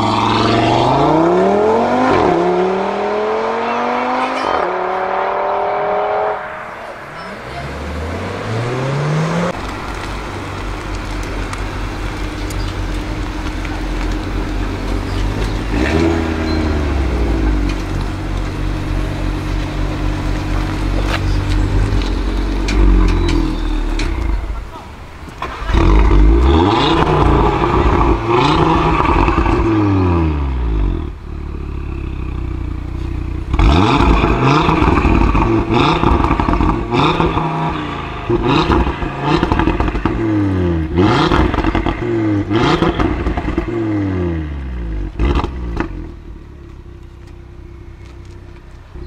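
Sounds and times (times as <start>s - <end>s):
car engine revving: 0.0s - 49.0s
car engine idling: 6.4s - 49.0s
exhaust cracks: 7.7s - 49.0s.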